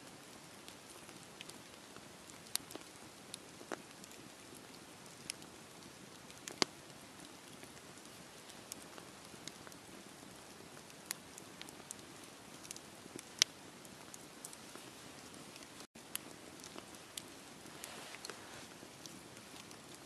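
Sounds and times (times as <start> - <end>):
fire crackles and pops: 0.0 - 20.0
wood fire hissing: 0.1 - 20.0.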